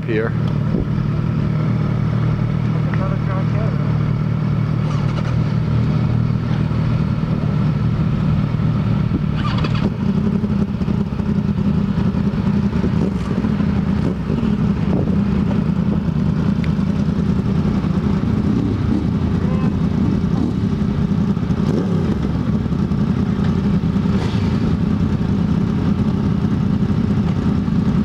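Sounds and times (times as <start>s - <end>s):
motorcycles idling: 0.0s - 28.0s.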